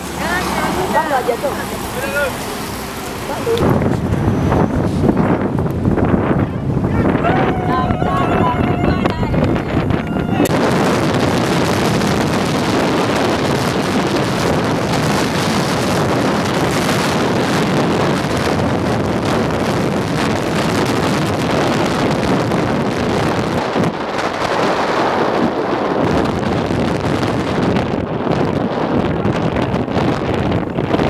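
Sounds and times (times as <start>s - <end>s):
car road noise: 0.0s - 31.0s
wind buffeting microphone: 0.0s - 31.0s.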